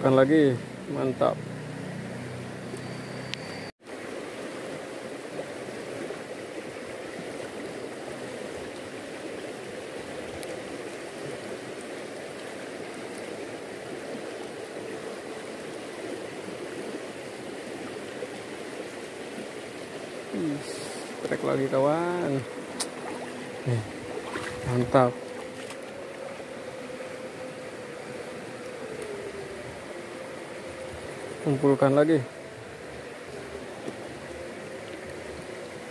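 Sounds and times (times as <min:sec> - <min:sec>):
river current rushing: 0:00.0 - 0:35.9.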